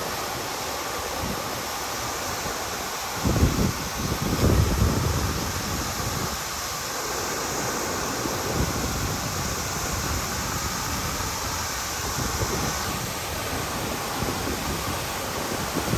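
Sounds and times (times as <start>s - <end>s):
waterfall rushing: 0.0s - 15.9s
wind buffeting microphone: 1.1s - 15.9s.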